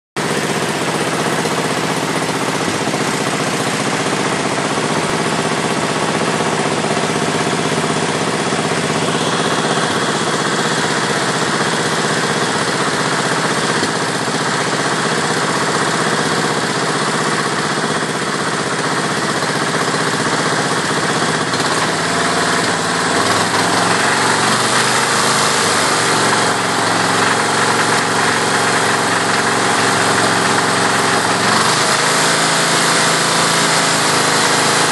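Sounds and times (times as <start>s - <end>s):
lawn tractor engine rattling: 0.2s - 34.9s.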